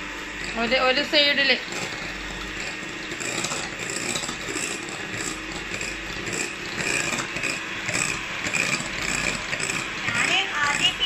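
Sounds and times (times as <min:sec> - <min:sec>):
electric hand mixer whirring: 0:00.0 - 0:11.0.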